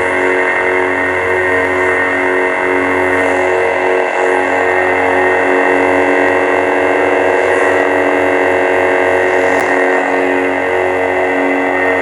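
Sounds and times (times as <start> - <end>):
lightsaber electric hum: 0.0 - 12.0.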